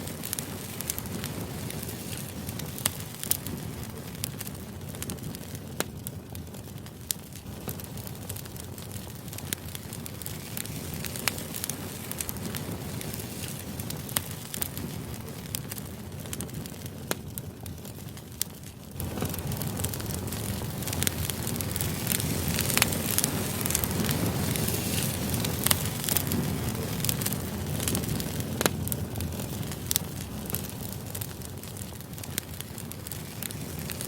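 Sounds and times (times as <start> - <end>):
fire crackling and popping: 0.0 - 34.0
low rush of fire: 0.0 - 34.0.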